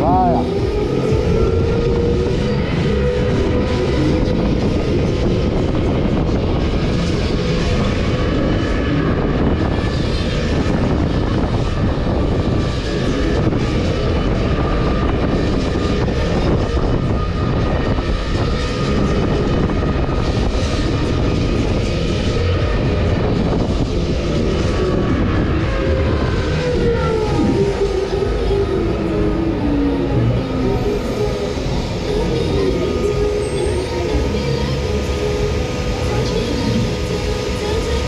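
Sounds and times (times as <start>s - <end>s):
fairground ride rumbling and rushing: 0.0s - 38.0s.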